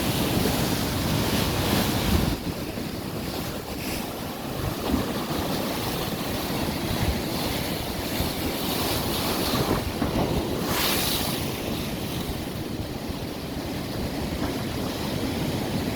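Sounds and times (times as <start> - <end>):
sea waves washing ashore: 0.0 - 15.9
wind buffeting microphone: 0.0 - 15.9.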